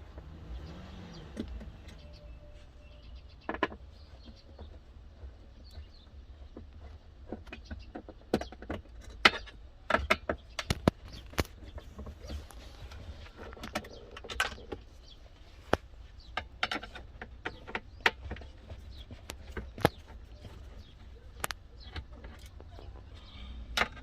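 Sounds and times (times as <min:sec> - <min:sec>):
clicks and taps of plastic parts: 0:01.3 - 0:02.2, 0:03.3 - 0:23.1, 0:23.7 - 0:24.0.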